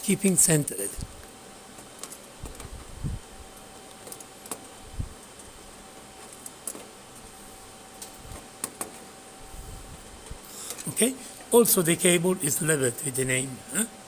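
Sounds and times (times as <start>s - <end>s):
faint equipment hum: 0.0s - 14.0s.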